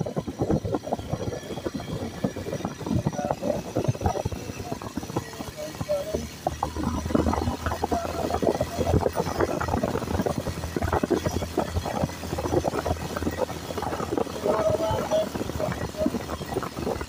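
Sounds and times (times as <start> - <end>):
knocks and rattles over rough track: 0.0 - 17.0
motorcycle engine running: 0.0 - 17.0.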